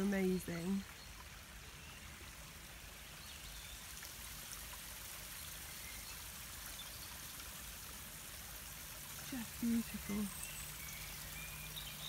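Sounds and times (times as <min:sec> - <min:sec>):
small stream running: 0:00.0 - 0:12.0.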